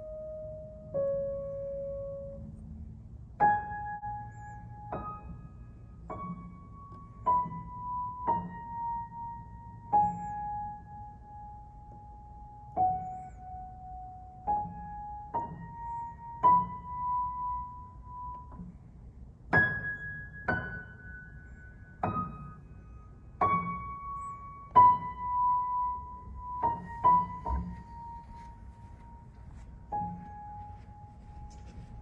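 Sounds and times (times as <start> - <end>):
slow piano melody: 0.0 - 32.0.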